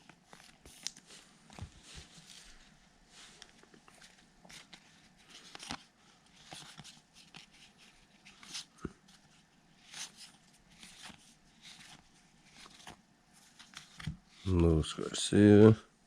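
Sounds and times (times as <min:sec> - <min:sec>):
cards being flipped through: 0:00.0 - 0:02.5, 0:03.4 - 0:14.2.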